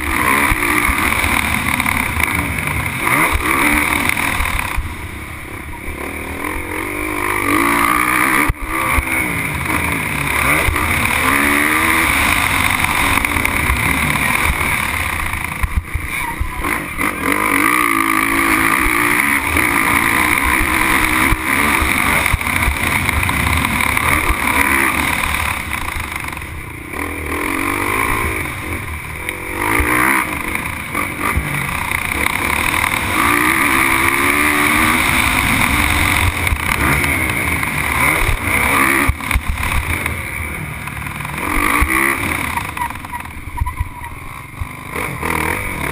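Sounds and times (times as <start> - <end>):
motocross bike engine revving: 0.0 - 45.9.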